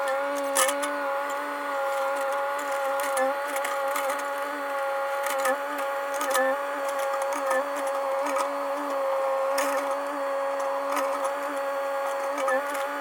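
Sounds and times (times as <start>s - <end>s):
mini excavator whining: 0.0s - 13.0s.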